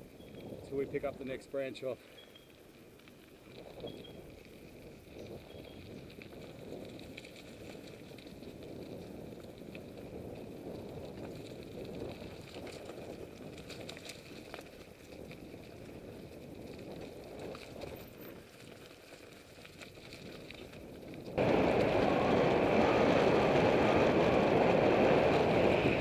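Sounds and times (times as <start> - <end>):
bike rattling and clicking: 0.0 - 26.0
bike tyres crunching on gravel: 0.0 - 26.0.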